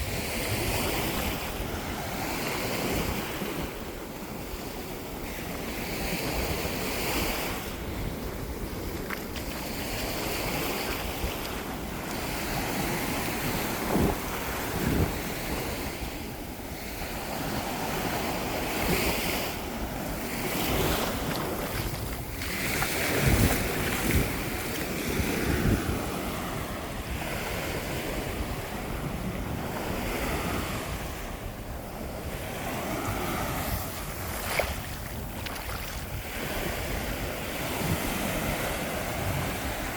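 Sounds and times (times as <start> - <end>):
ocean waves breaking: 0.0 - 39.9
wind buffeting microphone: 5.8 - 39.9.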